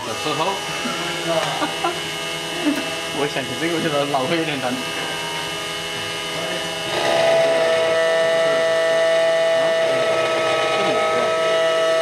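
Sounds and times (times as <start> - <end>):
key cutting machine whine: 0.0 - 12.0.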